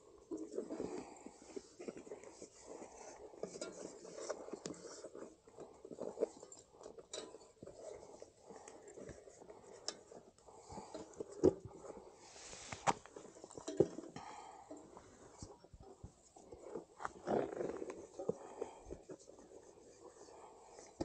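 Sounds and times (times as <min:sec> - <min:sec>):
handling rustles and clicks: 0:00.0 - 0:21.0.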